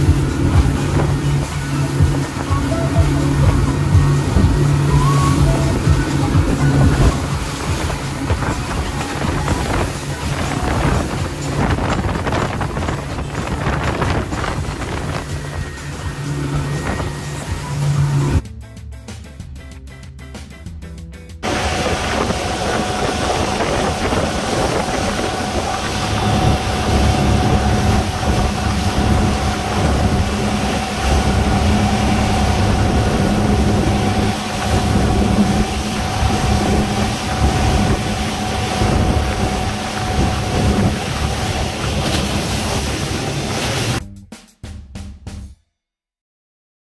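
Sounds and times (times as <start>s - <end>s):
constant whine: 0.0s - 18.4s, 21.4s - 44.0s
motorboat engine drone: 0.0s - 18.4s, 21.4s - 44.1s
water noise: 0.0s - 18.4s, 21.4s - 44.0s
wind on microphone: 0.0s - 18.4s, 21.4s - 44.0s.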